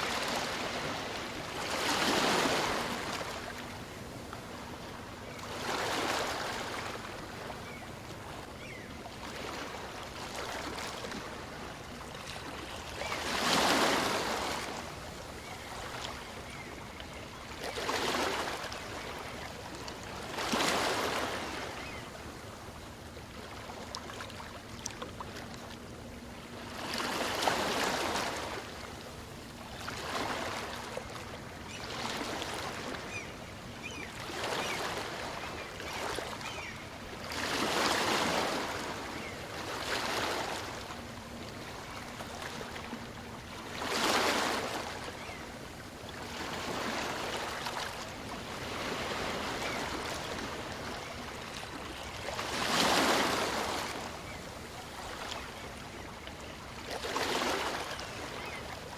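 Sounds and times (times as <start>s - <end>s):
small waves breaking on beach: 0.0s - 16.7s, 17.4s - 25.5s, 26.5s - 58.9s.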